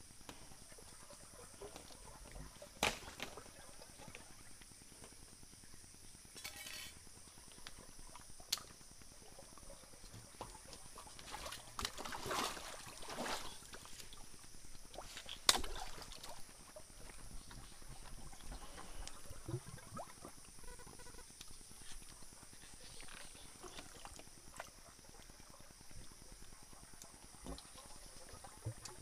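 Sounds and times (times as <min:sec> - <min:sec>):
stream water splashing and gurgling: 0:00.4 - 0:04.6, 0:06.4 - 0:20.6, 0:21.6 - 0:29.0.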